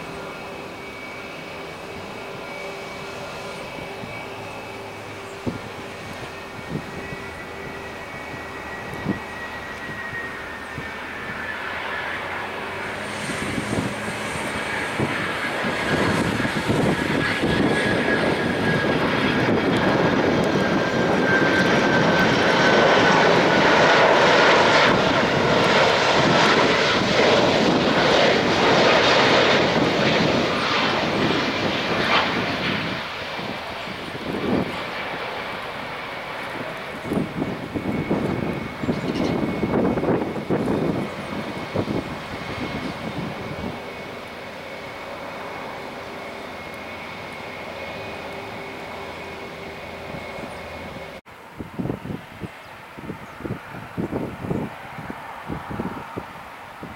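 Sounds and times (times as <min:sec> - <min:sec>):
jet engines passing low: 0:00.0 - 0:56.9.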